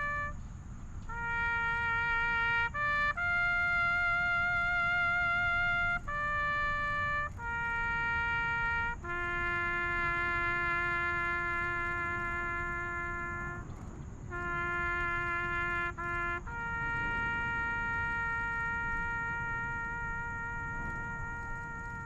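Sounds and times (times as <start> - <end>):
horn blowing long notes: 0.0 - 0.4, 1.0 - 22.0.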